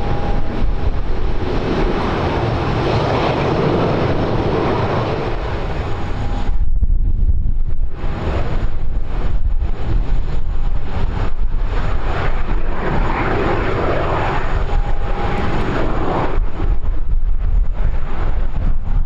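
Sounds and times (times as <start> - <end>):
aircraft engines passing: 0.0 - 19.0
wind buffeting microphone: 0.0 - 19.0.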